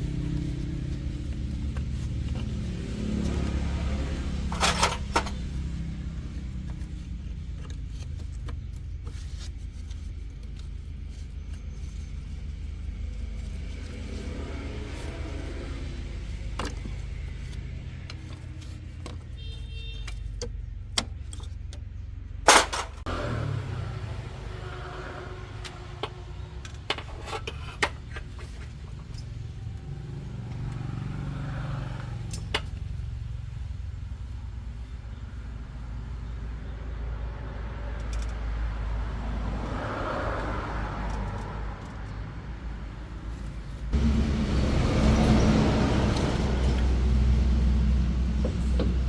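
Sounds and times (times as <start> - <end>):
truck engine humming: 0.0 - 49.0.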